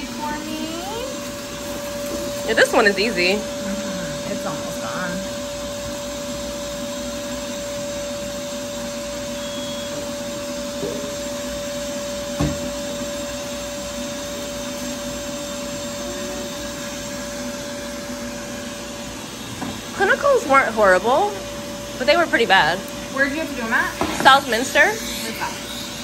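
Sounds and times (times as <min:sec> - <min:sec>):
cold-air cooling unit blowing: 0:00.0 - 0:26.0.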